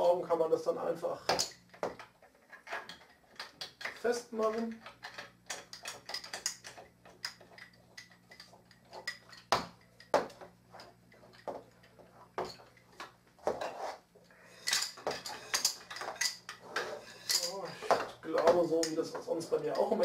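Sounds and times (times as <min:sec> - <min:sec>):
wooden rods knocking and clicking: 0:01.3 - 0:13.7, 0:14.6 - 0:20.0.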